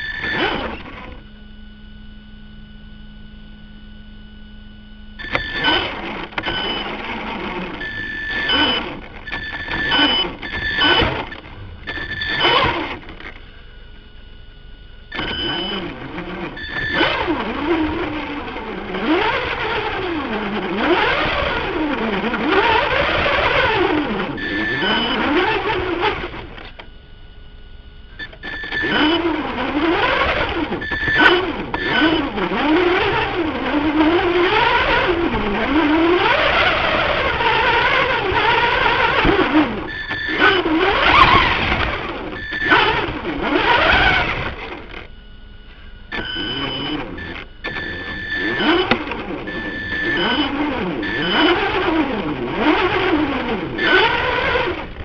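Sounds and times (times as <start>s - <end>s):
radio-controlled car motor whine: 0.0s - 55.0s.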